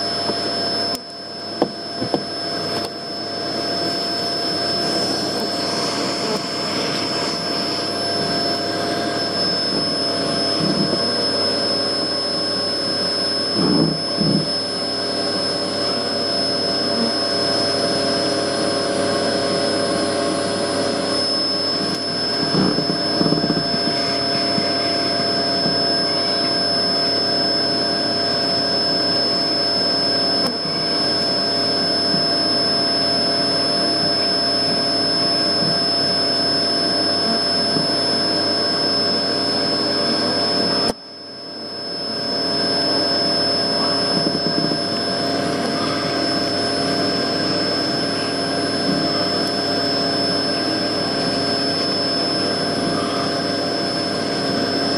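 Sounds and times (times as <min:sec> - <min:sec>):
vacuum cleaner whining: 0:00.0 - 0:54.9.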